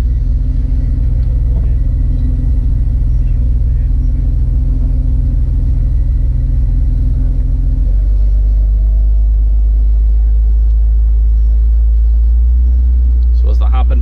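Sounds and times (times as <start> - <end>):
car engine: 0.0 - 14.0
road rumble: 0.0 - 14.0.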